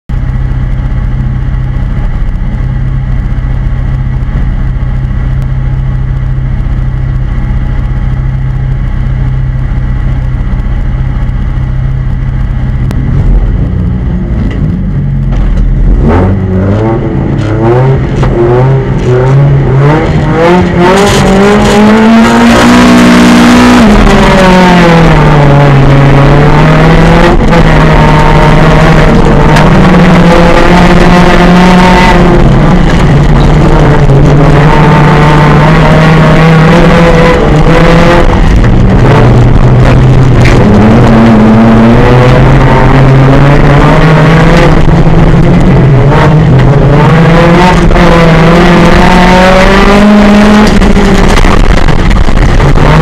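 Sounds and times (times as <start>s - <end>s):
race car engine revving: 0.1s - 53.0s.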